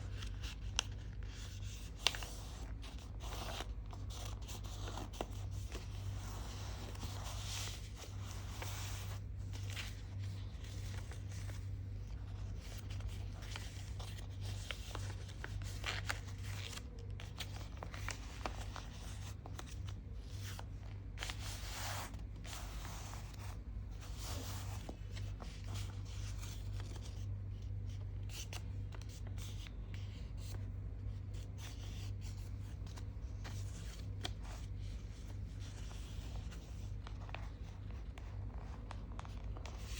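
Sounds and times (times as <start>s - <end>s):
paper being folded and creased: 0.0s - 39.9s.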